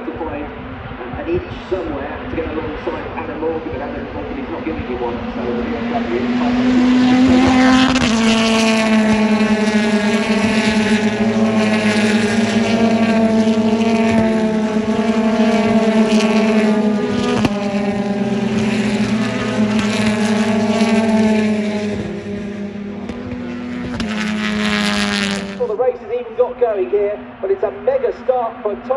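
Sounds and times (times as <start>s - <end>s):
race car engines running hard: 0.0s - 28.9s.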